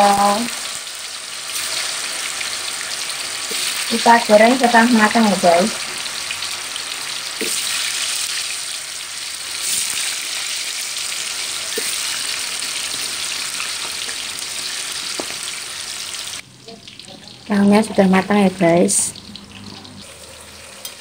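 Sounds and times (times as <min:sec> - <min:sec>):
tofu sizzling in hot oil: 0:00.0 - 0:17.1.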